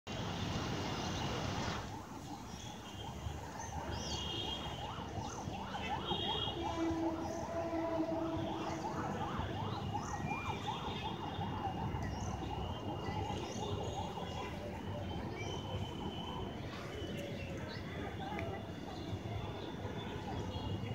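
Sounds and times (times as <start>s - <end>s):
city traffic rumble: 0.0s - 20.9s
distant siren yelping: 1.2s - 20.9s.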